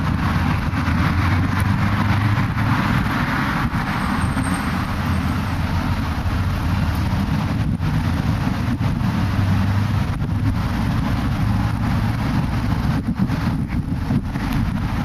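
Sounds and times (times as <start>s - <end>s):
car passing: 0.0s - 15.0s
steady low traffic rumble: 0.0s - 15.0s.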